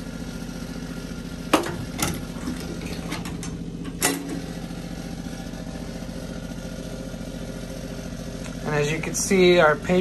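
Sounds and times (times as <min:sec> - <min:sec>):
motor drone: 0:00.0 - 0:10.0.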